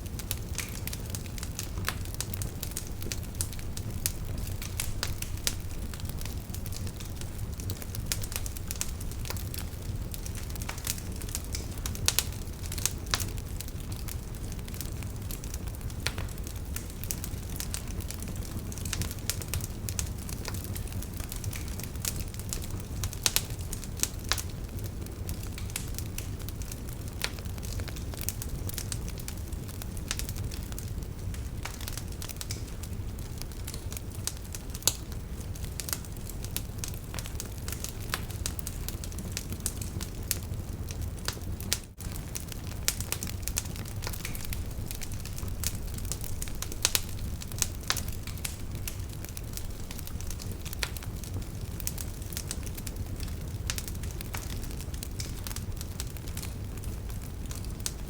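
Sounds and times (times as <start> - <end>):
campfire crackling and popping: 0.0 - 58.0
low rush of flames: 0.0 - 58.0.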